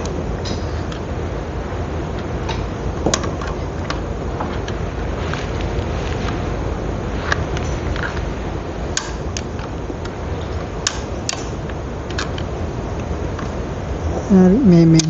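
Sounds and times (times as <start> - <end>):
low background hiss: 0.0 - 15.0.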